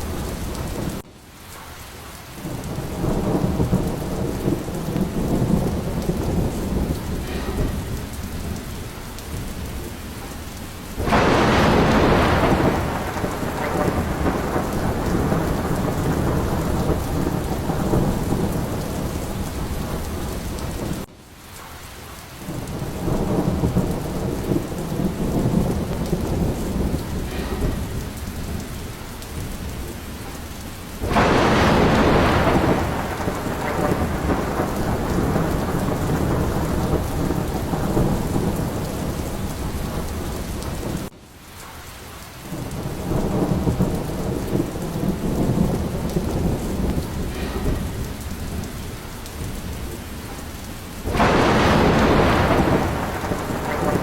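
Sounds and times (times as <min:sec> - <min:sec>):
rolling thunder: 0:00.0 - 0:01.0, 0:02.4 - 0:21.1, 0:22.4 - 0:41.1, 0:42.4 - 0:54.0
steady rain: 0:00.0 - 0:54.0
loud thunderclap: 0:02.4 - 0:21.1, 0:22.5 - 0:41.1, 0:42.5 - 0:54.0.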